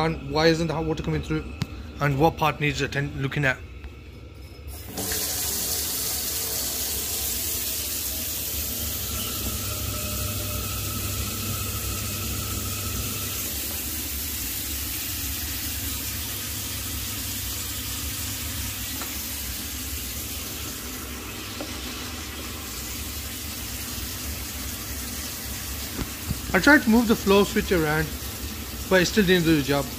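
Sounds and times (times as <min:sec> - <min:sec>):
water running from tap into sink: 0:04.7 - 0:29.9.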